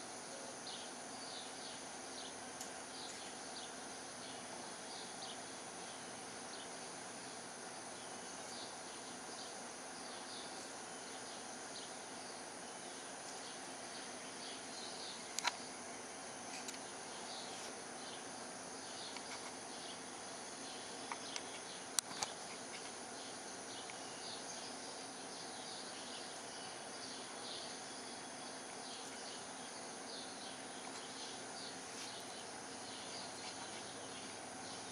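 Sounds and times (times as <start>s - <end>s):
continuous high buzz: 0.0s - 34.9s
insects chirping: 0.0s - 34.9s.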